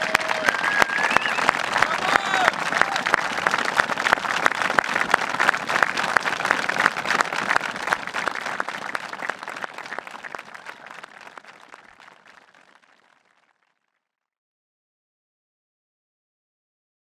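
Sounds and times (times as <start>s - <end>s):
crowd applauding: 0.0s - 13.9s.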